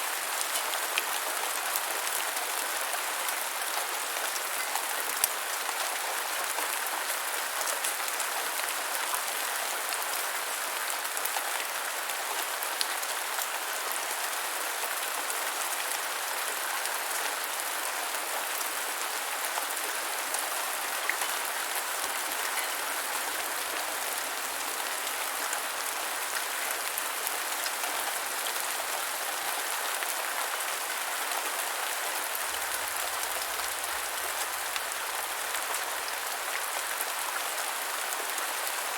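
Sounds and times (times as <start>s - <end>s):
gentle rainfall hiss: 0.0s - 38.9s.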